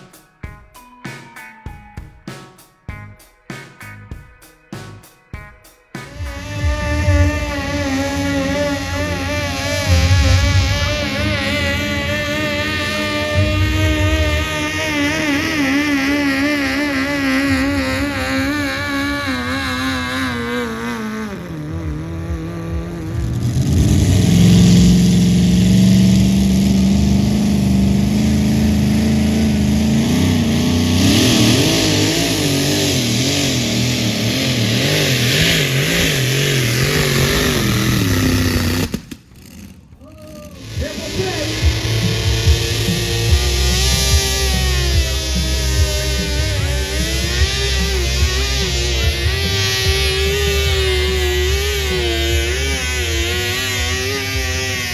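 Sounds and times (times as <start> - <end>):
vehicle engine running under load: 6.1 - 54.9.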